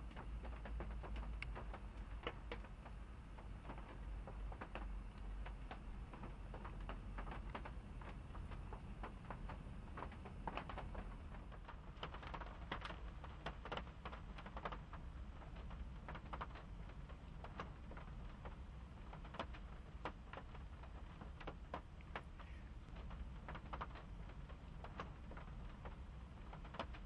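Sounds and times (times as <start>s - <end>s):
faint clicking and crackling: 0.0s - 27.0s
steady low hum: 0.0s - 27.0s.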